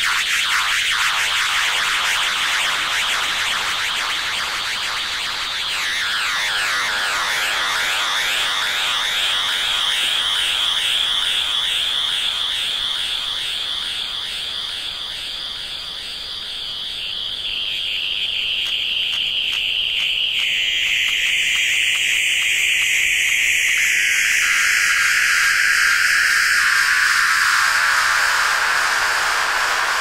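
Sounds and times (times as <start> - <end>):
pulsing electronic whine: 0.0 - 30.0.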